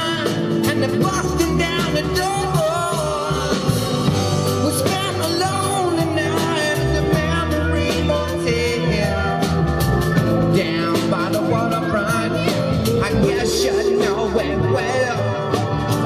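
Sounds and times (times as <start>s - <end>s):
bass guitar: 0.0s - 16.0s
drums: 0.0s - 16.0s
electric guitar: 0.0s - 16.0s
person singing: 0.0s - 16.0s.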